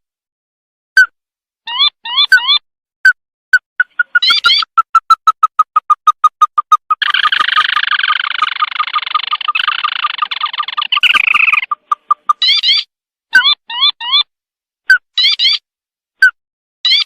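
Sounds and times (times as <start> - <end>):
recorded bird call trilling: 1.0 - 2.6, 3.8 - 14.3, 14.9 - 17.0.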